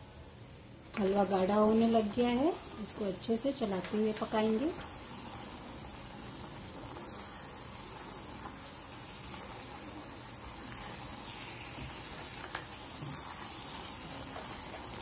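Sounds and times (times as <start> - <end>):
sweet sizzling in hot ghee: 0.0 - 15.0.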